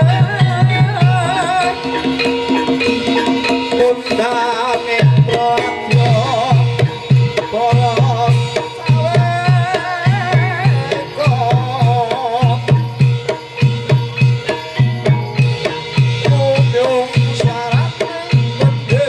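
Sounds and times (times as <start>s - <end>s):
gamelan music: 0.0s - 19.0s.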